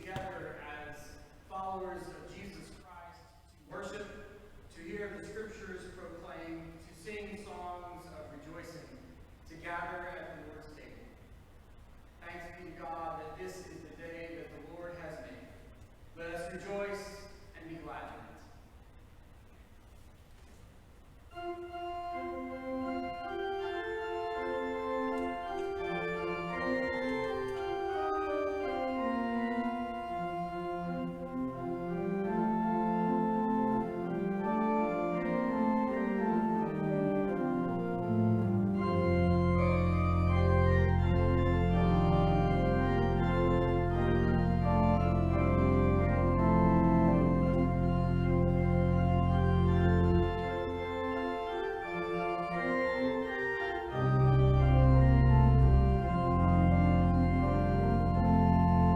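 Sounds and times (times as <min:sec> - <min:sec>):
organ chords: 0:00.0 - 0:20.3, 0:21.0 - 0:58.9.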